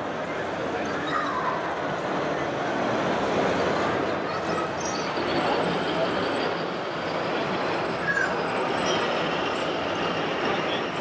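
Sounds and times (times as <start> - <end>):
murmur of voices: 0.0 - 11.0.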